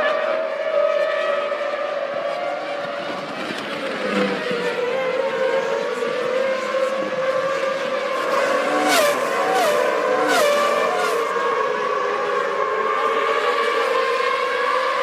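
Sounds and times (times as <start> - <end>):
racing car engine at high revs: 0.0 - 15.0.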